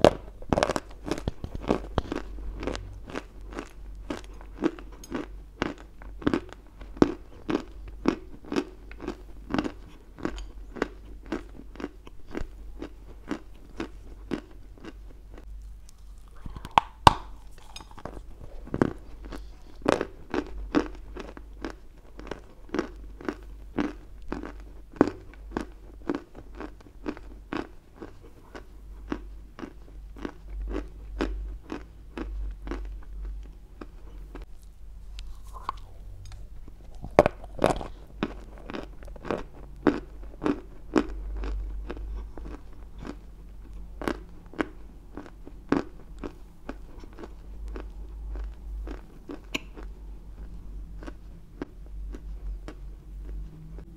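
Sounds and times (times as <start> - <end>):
chalk crunching while chewed: 0.0 - 53.9.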